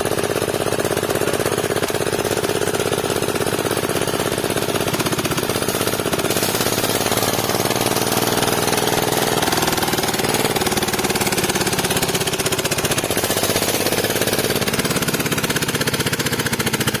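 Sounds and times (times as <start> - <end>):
diesel engine knocking steadily: 0.0 - 17.0.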